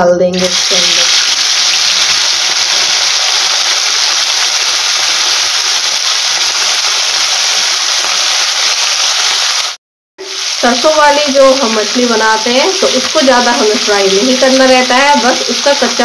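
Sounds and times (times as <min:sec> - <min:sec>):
fish sizzling in hot oil: 0:00.4 - 0:16.0.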